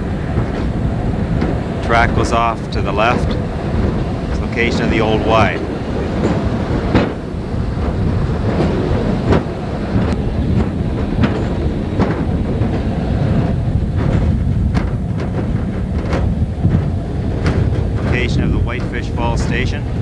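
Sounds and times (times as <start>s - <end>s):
truck rumbling on railway track: 0.0s - 20.0s
wheels clicking over rail joints: 0.0s - 20.0s.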